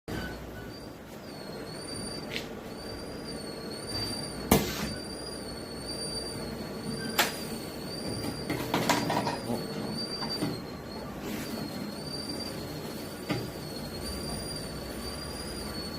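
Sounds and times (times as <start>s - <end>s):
bottle-filling machine whine: 0.1s - 15.9s.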